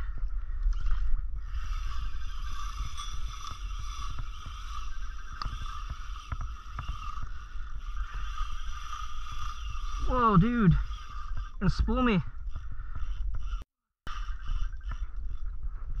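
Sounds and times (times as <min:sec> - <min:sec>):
fishing reel drag whining: 0:00.0 - 0:16.0
water noise: 0:00.0 - 0:16.0
wind: 0:00.0 - 0:16.0.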